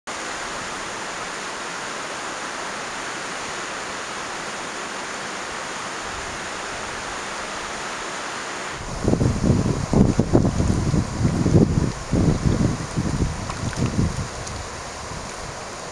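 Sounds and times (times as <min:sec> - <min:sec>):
river water rushing past rocks: 0:00.1 - 0:15.9.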